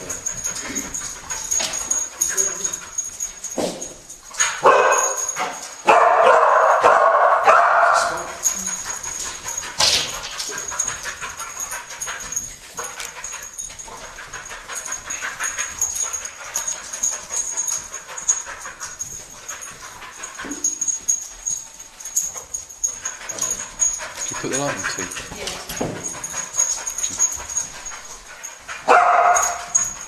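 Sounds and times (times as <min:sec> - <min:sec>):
dog whimpering and panting: 0:00.0 - 0:05.8, 0:08.0 - 0:30.0.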